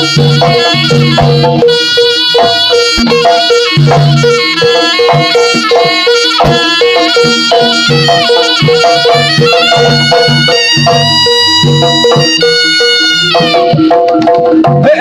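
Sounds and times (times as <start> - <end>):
shrill reed wind instrument melody: 0.0 - 14.2
drums and percussion beat: 0.0 - 15.0.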